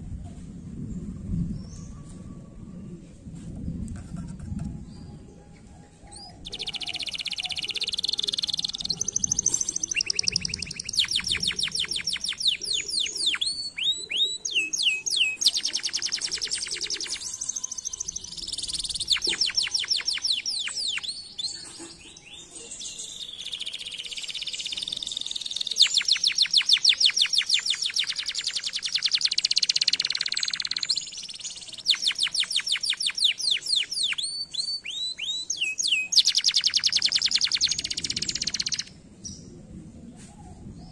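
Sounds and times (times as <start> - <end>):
canary singing: 6.1 - 39.0.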